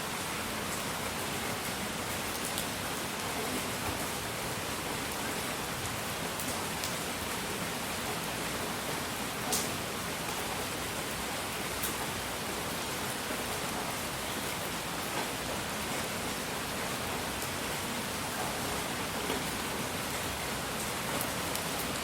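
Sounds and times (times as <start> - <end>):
steady hiss like rain: 0.0 - 22.0.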